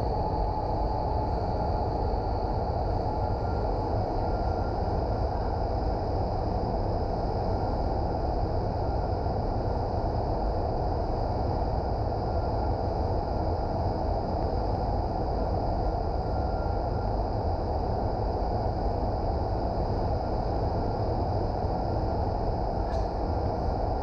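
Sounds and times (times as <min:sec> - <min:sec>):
faint high whine: 0:00.0 - 0:24.0
wind tunnel airflow roar: 0:00.0 - 0:24.0.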